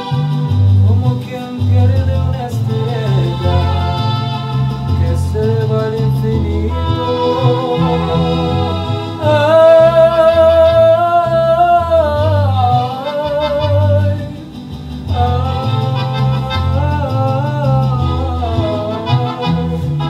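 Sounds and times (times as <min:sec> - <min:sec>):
recorded backing track with bass: 0:00.0 - 0:20.0
man singing a ballad: 0:00.7 - 0:20.0.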